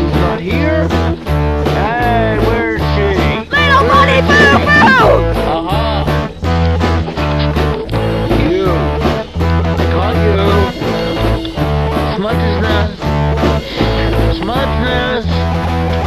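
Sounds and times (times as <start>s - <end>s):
guitar bending notes: 0.0s - 16.0s
steady bass line: 0.0s - 16.0s.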